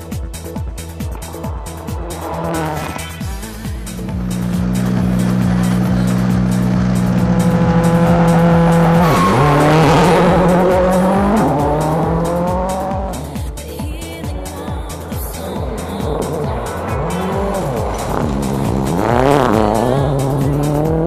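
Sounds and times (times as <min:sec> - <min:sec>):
music with a steady beat: 0:00.0 - 0:21.0
rally car engine revving: 0:00.4 - 0:21.0.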